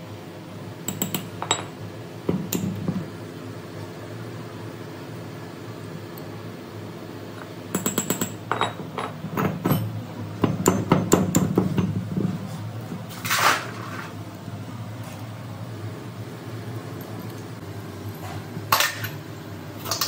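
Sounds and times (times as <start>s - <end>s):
steady fan hum: 0.0s - 20.0s.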